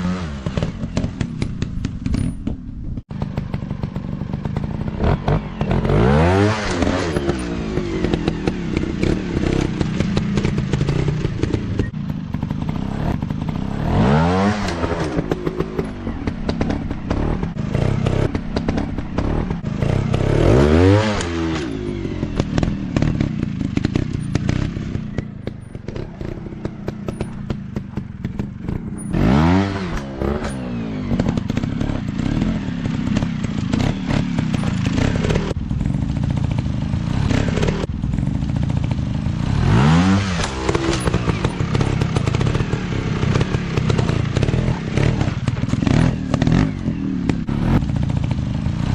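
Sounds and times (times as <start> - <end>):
dirt bike engine revving: 0.0 - 2.4, 3.0 - 48.9.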